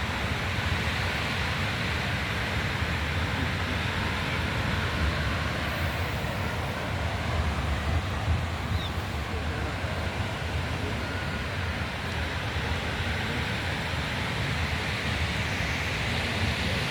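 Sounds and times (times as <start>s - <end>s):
sea surf: 0.0s - 16.9s.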